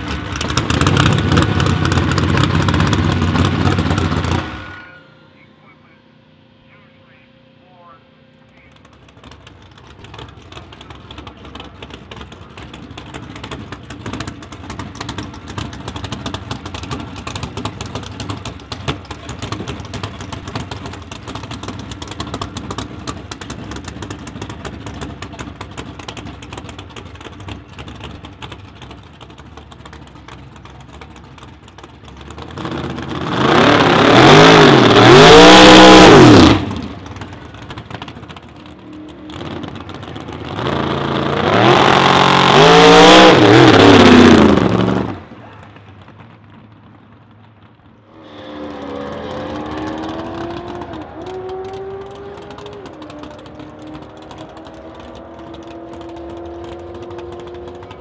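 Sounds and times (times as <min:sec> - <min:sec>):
drag car engine revving: 0:00.0 - 0:05.0, 0:08.5 - 0:58.0.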